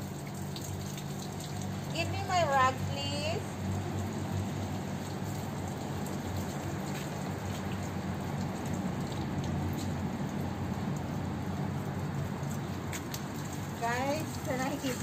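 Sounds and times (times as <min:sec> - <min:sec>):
hose spraying water on car: 0:00.0 - 0:15.0
low steady hum: 0:00.0 - 0:15.0.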